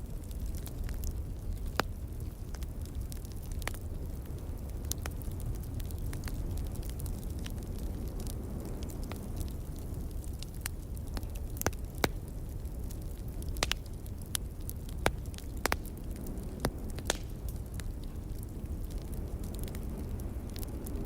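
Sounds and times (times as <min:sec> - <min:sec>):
low rumble of wind: 0:00.0 - 0:21.0
wood fire crackling and popping: 0:00.0 - 0:21.0.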